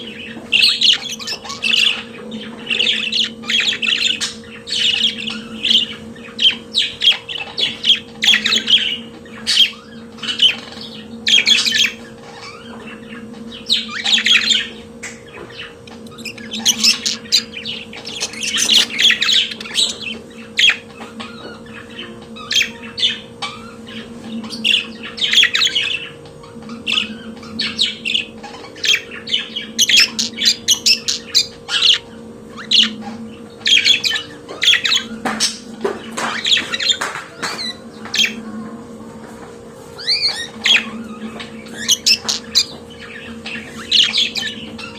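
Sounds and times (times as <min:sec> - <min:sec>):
budgerigar chirping and warbling: 0:00.0 - 0:38.6, 0:39.4 - 0:44.9
faint steady hum: 0:00.0 - 0:44.9.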